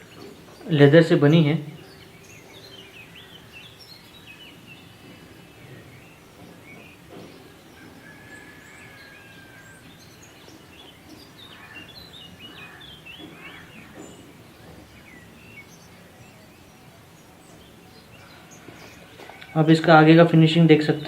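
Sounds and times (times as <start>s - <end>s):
low steady background noise: 0.0s - 21.0s
small birds chirping: 0.0s - 21.0s.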